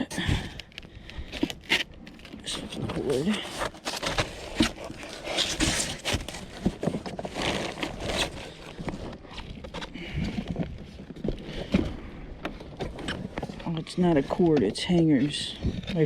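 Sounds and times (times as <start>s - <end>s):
rustling of handled items: 0.0s - 16.0s.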